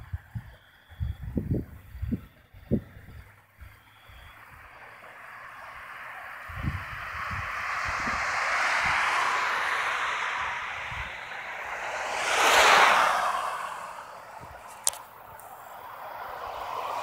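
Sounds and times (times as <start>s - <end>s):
road traffic passing: 0.0s - 17.0s
car passing by: 3.1s - 17.0s.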